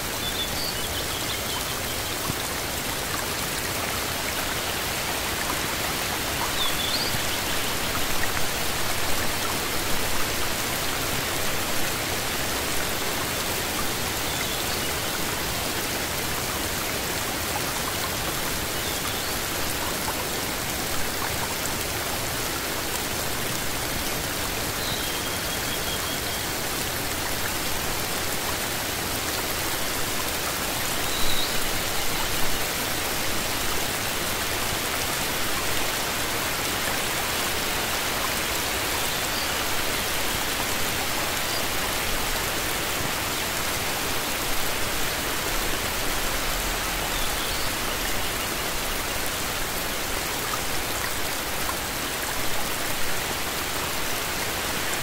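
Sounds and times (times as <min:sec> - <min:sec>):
rain falling on leafy plants: 0:00.0 - 0:55.0.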